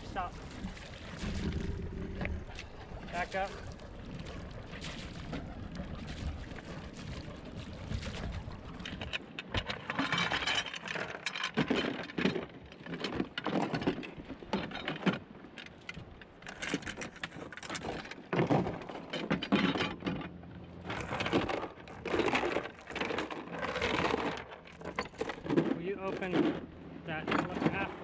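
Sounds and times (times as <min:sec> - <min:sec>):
oar strokes splashing: 0:00.0 - 0:28.0.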